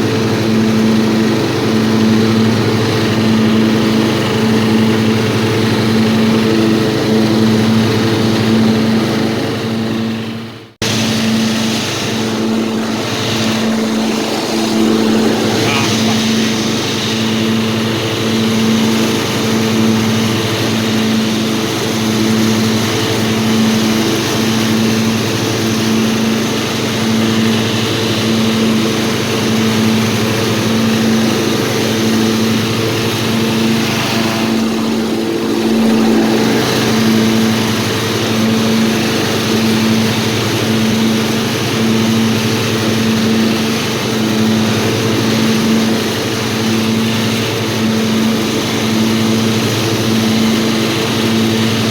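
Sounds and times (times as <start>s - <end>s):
riding lawnmower engine running: 0.0s - 51.9s.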